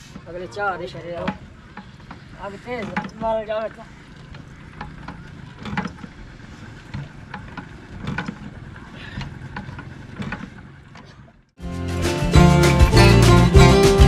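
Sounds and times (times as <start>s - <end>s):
diesel engine knocking rumble: 0.0s - 11.5s.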